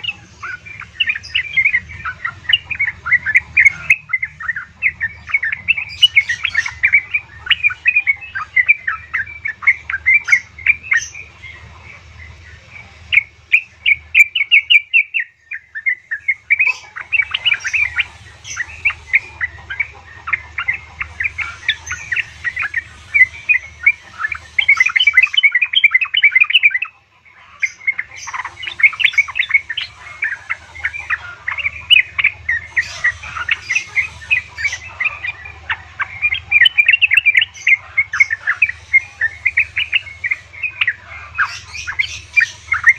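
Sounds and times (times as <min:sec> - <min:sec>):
bird chattering: 0:00.0 - 0:42.9
steady low hum: 0:00.0 - 0:42.9.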